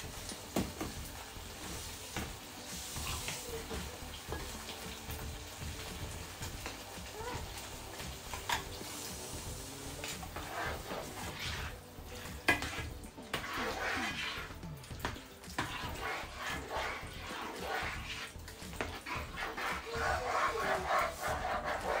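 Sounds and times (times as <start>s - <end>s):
spatula stirring thick sauce: 0.0s - 22.0s.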